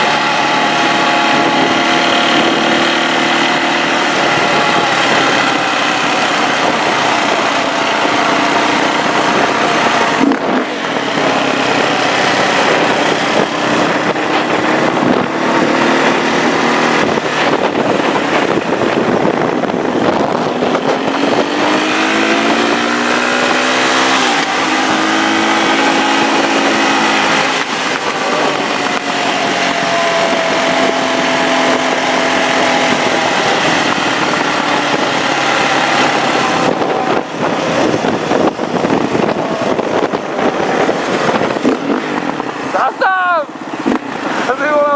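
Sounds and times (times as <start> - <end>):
car engine under load: 0.0 - 44.9
constant rushing noise: 0.0 - 44.9.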